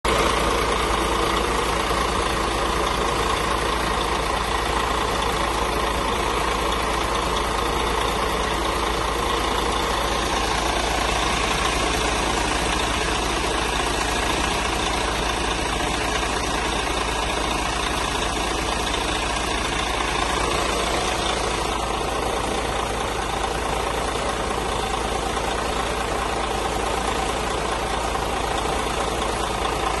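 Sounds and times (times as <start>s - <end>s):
coach diesel engine idling: 0.0s - 30.0s.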